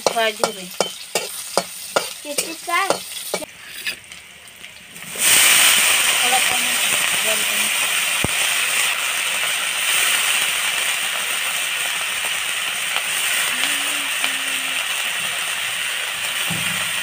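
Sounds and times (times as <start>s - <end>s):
greens sizzling in a pan: 0.0s - 17.0s.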